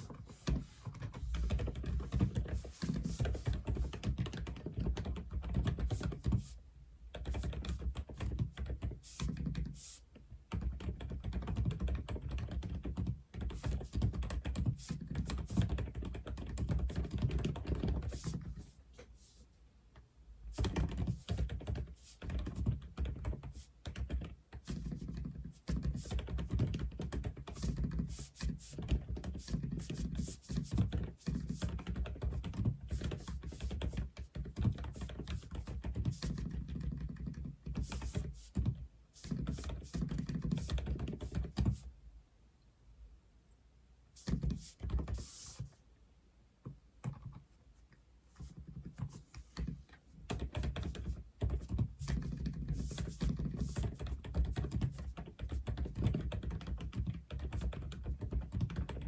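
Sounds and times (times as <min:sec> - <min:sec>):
mechanical keyboard typing: 0:00.1 - 0:06.4, 0:07.1 - 0:09.6, 0:10.5 - 0:18.6, 0:20.6 - 0:41.8, 0:48.8 - 0:59.0.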